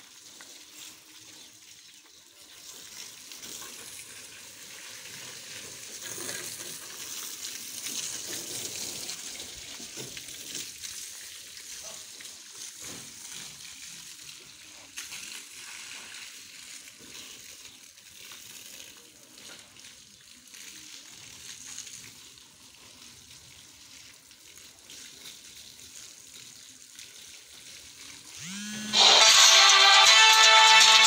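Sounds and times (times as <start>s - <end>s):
water jet spraying on metal: 0.0s - 31.0s.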